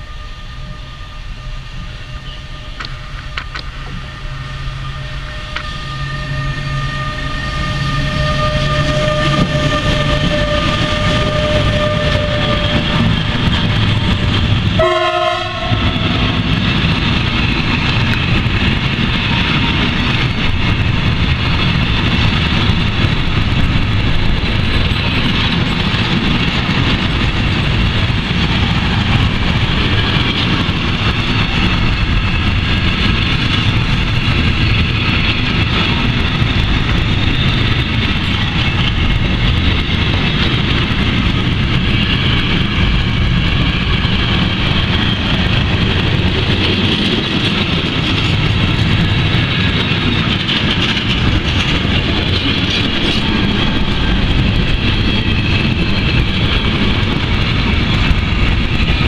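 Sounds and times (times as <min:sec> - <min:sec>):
electric locomotive whine: 0:00.0 - 0:59.0
train wheels rolling on rails: 0:00.0 - 0:59.0.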